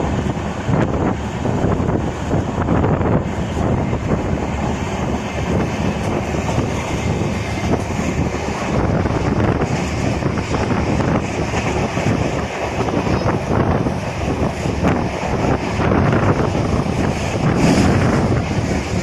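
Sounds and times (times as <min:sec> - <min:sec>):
train rumbling on track: 0:00.0 - 0:19.0
wind buffeting microphone: 0:00.0 - 0:19.0.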